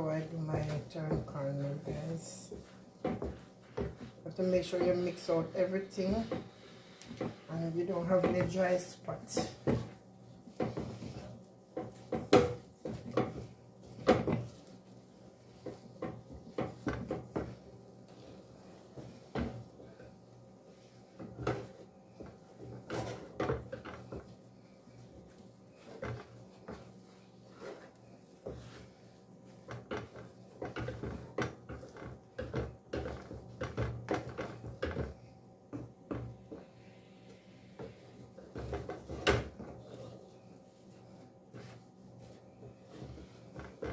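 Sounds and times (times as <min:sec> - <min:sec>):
wooden spoon scraping pot: 0:00.0 - 0:43.9.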